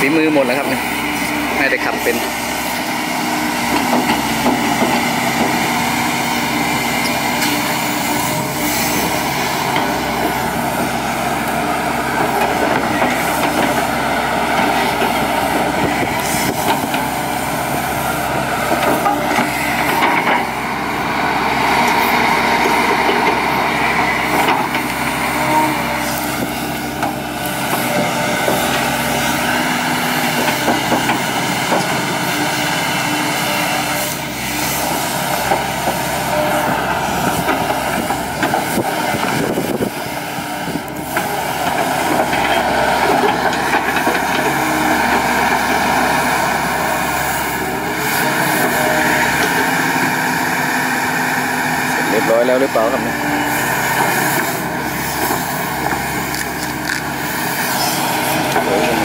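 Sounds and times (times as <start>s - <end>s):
excavator engine and hydraulics: 0.0s - 59.0s.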